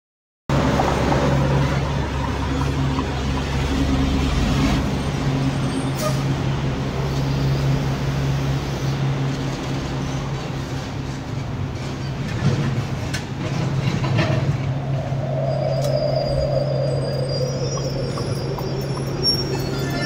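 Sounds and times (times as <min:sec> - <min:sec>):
street traffic: 0:00.5 - 0:20.0.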